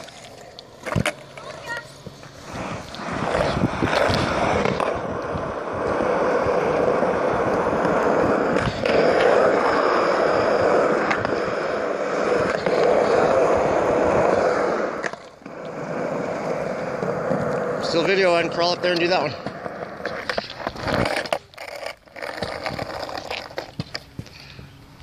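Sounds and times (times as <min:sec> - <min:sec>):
skateboard wheels clacking on joints: 0:00.0 - 0:25.0
skateboard wheels rolling on concrete: 0:00.0 - 0:25.0.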